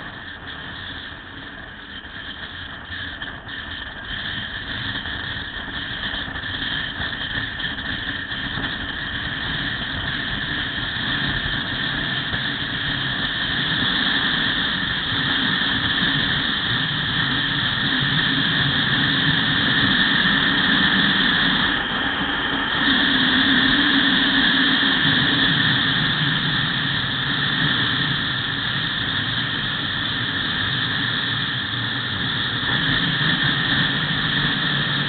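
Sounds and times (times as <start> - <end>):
motorcycle engine running: 0.0 - 35.0
wind rushing over microphone: 0.0 - 35.0.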